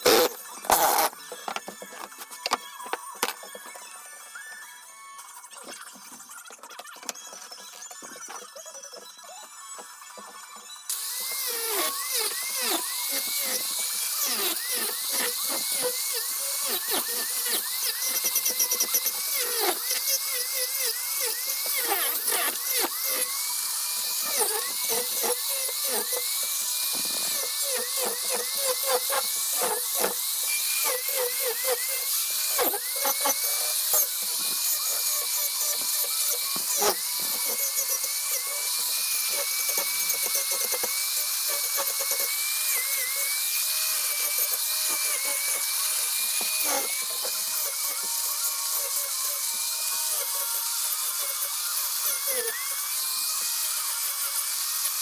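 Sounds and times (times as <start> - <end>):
angle grinder motor whine: 0.0 - 55.0.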